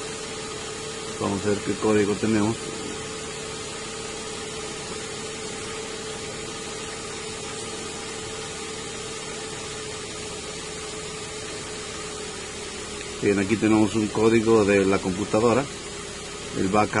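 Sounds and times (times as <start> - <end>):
car engine idling: 0.0 - 17.0
constant whine: 0.0 - 17.0.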